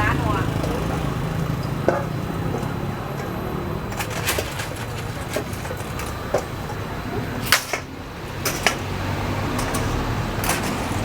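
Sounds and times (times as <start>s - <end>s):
utensils clicking and knocking: 0.4s - 6.8s, 7.4s - 11.0s.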